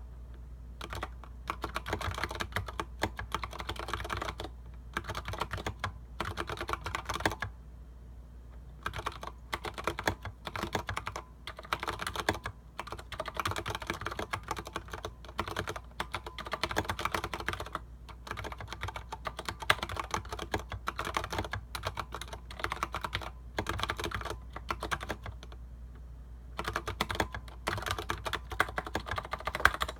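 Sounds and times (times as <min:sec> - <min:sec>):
typing on mechanical keyboard: 0:00.8 - 0:07.5, 0:08.8 - 0:25.6, 0:26.6 - 0:29.9.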